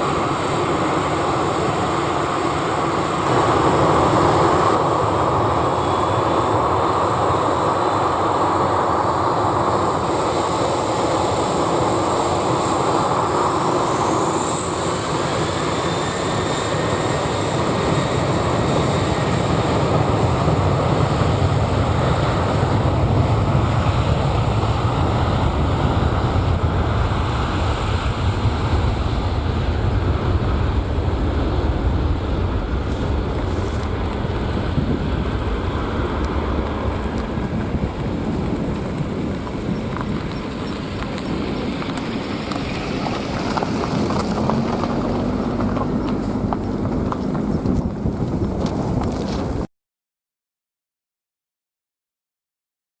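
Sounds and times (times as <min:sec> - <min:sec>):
jet engines roaring: 0:00.0 - 0:49.7.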